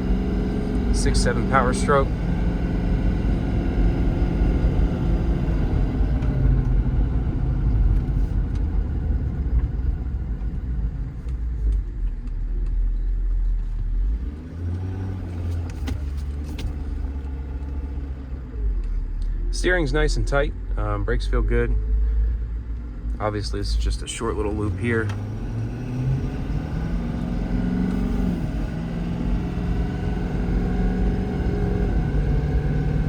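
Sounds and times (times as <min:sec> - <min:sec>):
diesel engine rumble: 0:00.0 - 0:33.0
tyres on road: 0:00.0 - 0:33.0.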